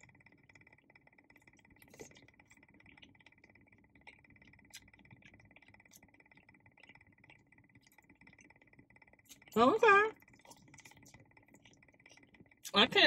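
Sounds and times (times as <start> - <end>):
faint chewing: 0.0 - 12.8.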